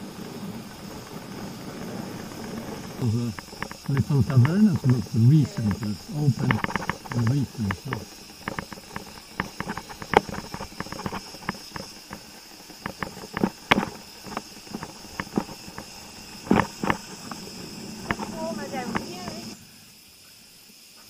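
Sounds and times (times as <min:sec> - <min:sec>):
bike rattling over asphalt: 0:00.0 - 0:20.1
high-pitched insect drone: 0:00.0 - 0:21.0.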